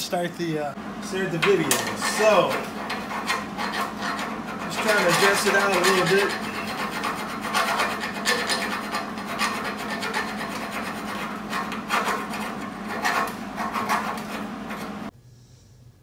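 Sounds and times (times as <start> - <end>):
steady low hum: 0.0 - 16.0
hand file scraping steel: 1.4 - 15.1.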